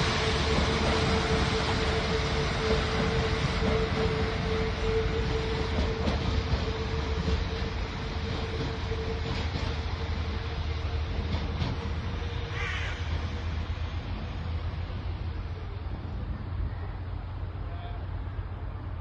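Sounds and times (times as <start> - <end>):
train engine rumble: 0.0 - 19.0.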